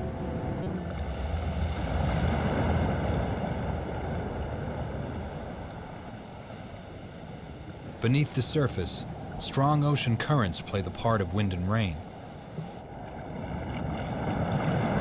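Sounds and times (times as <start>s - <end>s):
surf rushing: 0.0s - 15.0s
wind: 0.0s - 15.0s.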